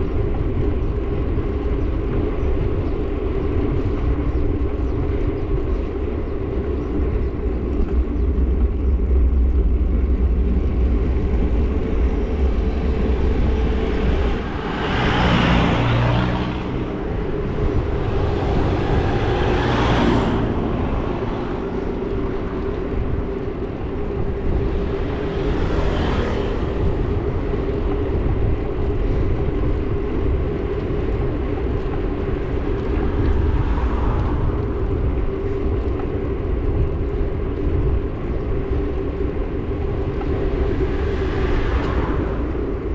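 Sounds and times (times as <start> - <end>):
vehicles passing: 0.0 - 42.9
wind and road noise: 0.0 - 42.9.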